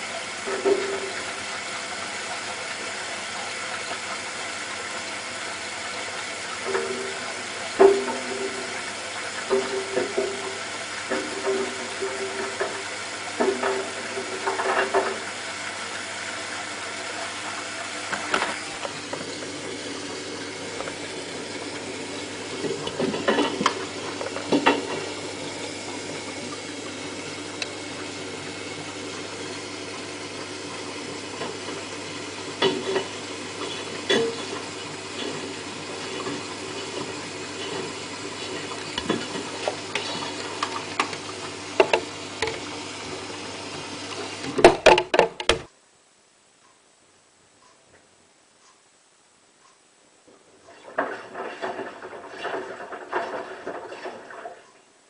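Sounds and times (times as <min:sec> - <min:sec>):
washing machine water sloshing: 0:00.0 - 0:45.4, 0:50.7 - 0:54.8.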